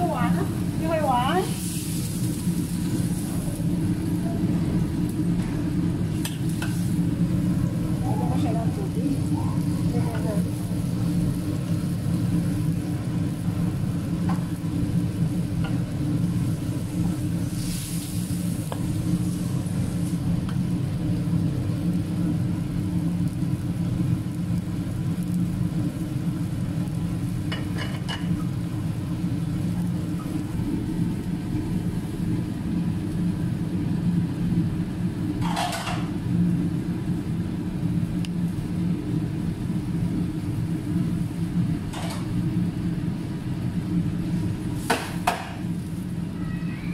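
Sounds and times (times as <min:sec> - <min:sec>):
faint sizzle: 0:00.0 - 0:46.9
food simmering in a wok: 0:00.0 - 0:46.9.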